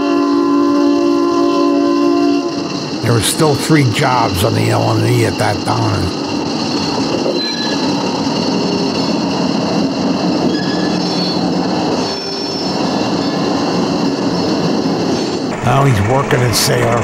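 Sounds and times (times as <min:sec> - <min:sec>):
wheels squealing on rails: 0:00.0 - 0:05.2, 0:05.8 - 0:17.0
diesel locomotive engines: 0:00.0 - 0:17.0
train rolling: 0:00.0 - 0:17.0.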